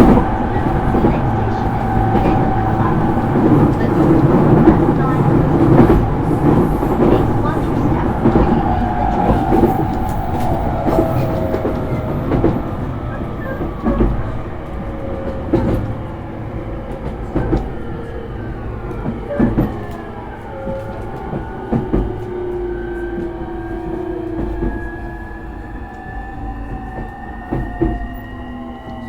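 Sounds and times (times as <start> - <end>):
rail-joint clacks: 0.0 - 29.0
rumble of train wheels: 0.0 - 29.0.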